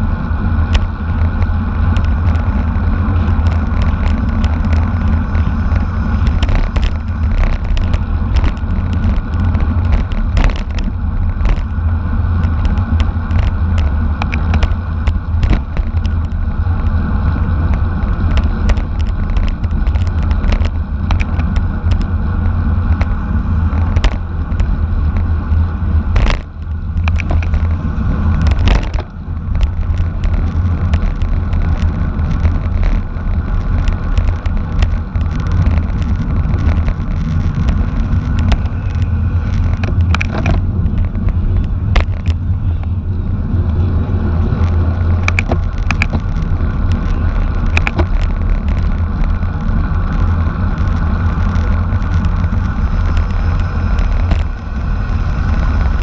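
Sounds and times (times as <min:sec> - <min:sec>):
bicycle road and drivetrain noise: 0:00.0 - 0:56.0
wind rumbling on microphone: 0:00.0 - 0:56.0.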